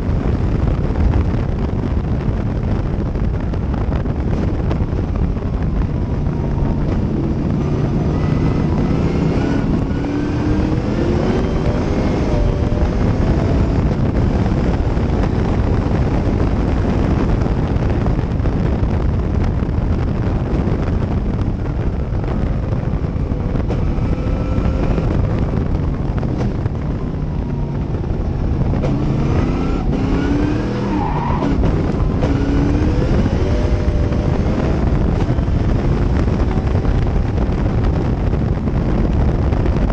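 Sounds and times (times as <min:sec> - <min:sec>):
wind rush on microphone: 0:00.0 - 0:39.9
race car engine revving: 0:04.2 - 0:17.8, 0:20.0 - 0:39.8.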